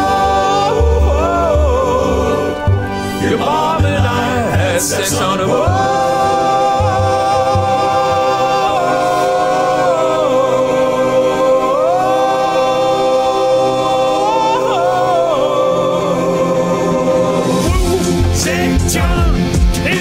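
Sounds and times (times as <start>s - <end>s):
comic song with vocal harmonies: 0.0s - 20.0s.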